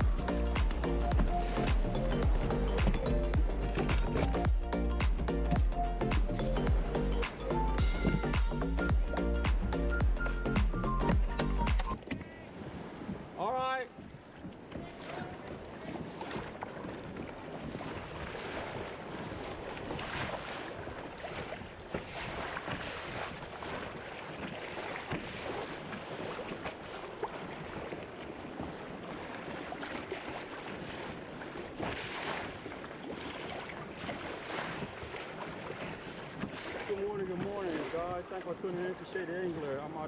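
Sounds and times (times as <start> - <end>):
water splashing against kayak hull: 0.0 - 40.0.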